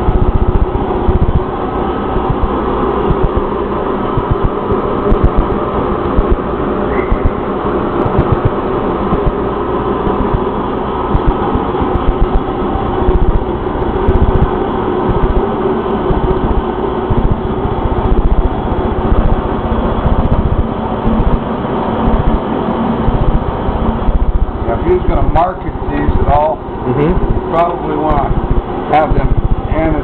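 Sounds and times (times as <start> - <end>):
machine tool humming: 0.0 - 30.0.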